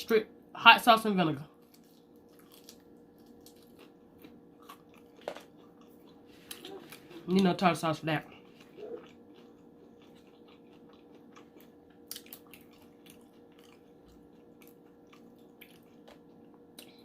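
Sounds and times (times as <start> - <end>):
low steady hum: 0.0 - 17.0
chewing crunchy food: 1.5 - 17.0.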